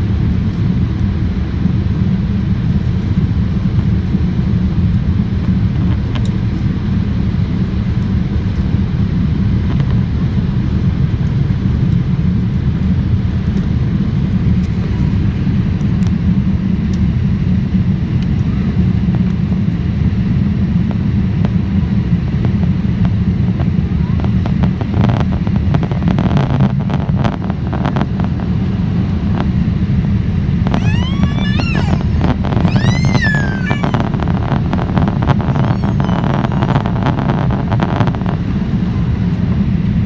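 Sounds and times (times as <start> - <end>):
jet engine roar in cabin: 0.0 - 40.0.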